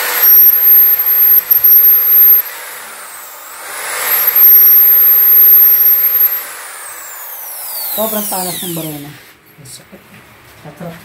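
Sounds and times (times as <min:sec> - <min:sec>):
electric drill whine: 0:00.0 - 0:09.4.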